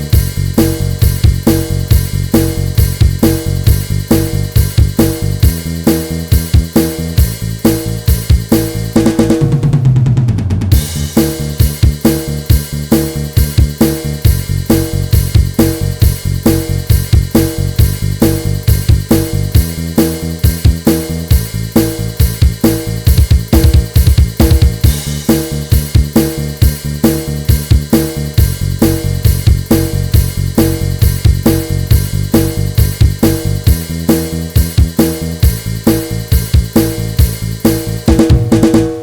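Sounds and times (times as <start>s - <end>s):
bass: 0.0s - 39.0s
drum kit steady beat: 0.0s - 39.0s.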